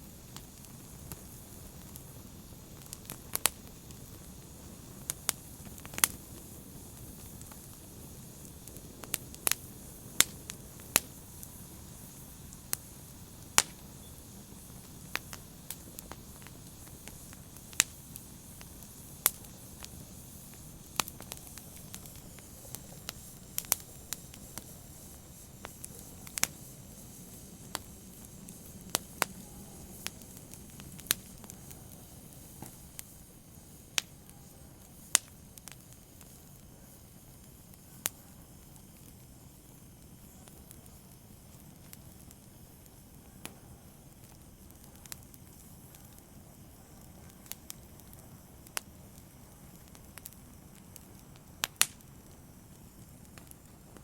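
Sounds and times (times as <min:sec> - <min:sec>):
fire crackling and popping: 0:00.0 - 0:54.0
low rustle of flames: 0:00.0 - 0:54.0.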